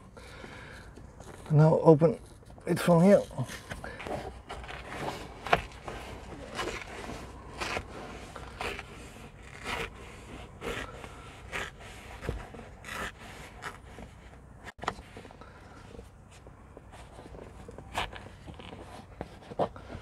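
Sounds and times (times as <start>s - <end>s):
fabric and plastic scraping: 2.2s - 20.0s.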